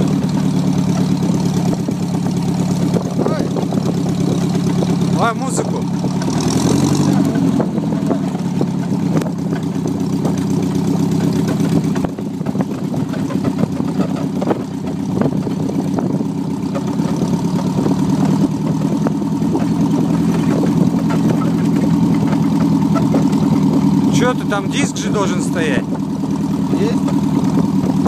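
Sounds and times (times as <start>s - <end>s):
motor tricycle engine idling: 0.0s - 28.0s.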